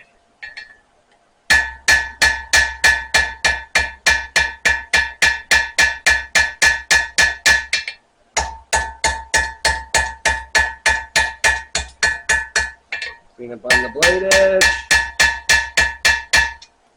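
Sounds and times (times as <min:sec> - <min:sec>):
hammer striking blade on anvil: 0:01.5 - 0:16.6.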